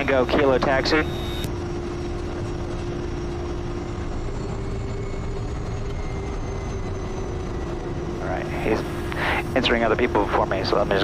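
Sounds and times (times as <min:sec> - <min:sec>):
turboprop engine droning: 0:00.0 - 0:11.0.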